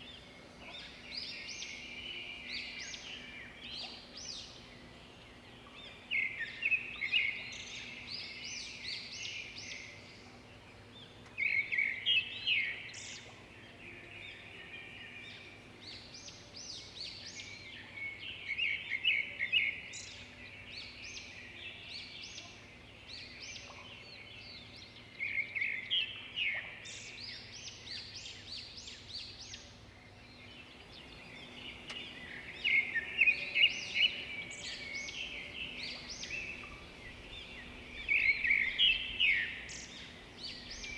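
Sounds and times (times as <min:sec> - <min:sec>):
faint steady hiss: 0:00.0 - 0:40.9
songbird singing: 0:00.0 - 0:40.9.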